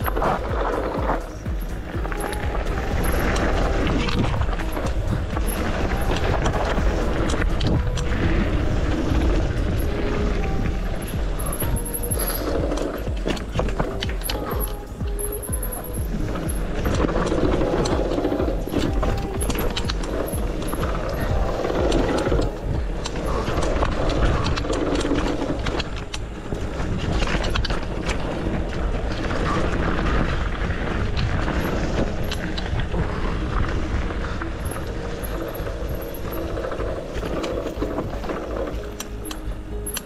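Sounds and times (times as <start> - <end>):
wind buffeting microphone: 0.0 - 39.8
bike frame and chain rattling: 0.0 - 40.0.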